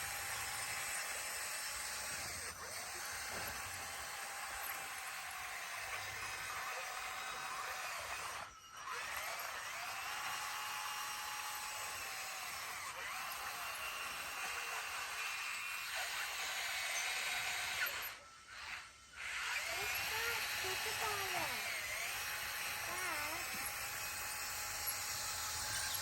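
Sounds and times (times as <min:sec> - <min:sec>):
bulldozer mechanical whine: 0:01.6 - 0:11.9, 0:14.5 - 0:26.0.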